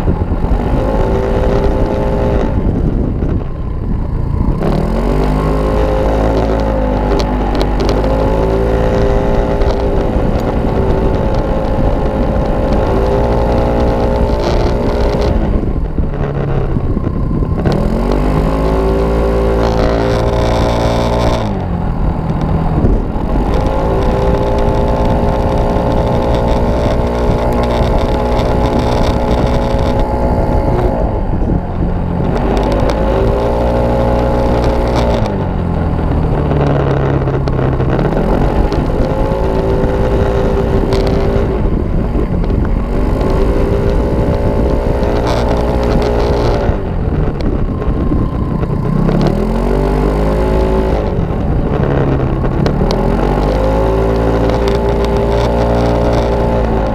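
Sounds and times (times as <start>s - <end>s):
scooter engine revving: 0.0s - 56.9s
tyre noise: 0.0s - 56.9s
wind noise: 0.0s - 56.9s.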